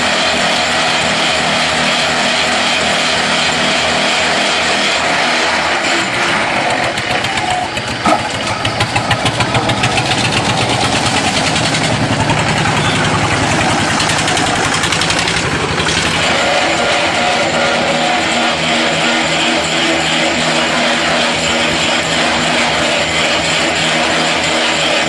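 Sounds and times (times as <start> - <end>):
machine rattling loudly: 0.0 - 25.0.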